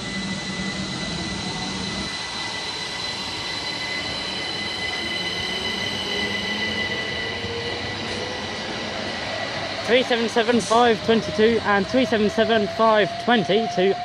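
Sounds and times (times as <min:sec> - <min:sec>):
train wheels and motors rumbling: 0:00.0 - 0:14.0.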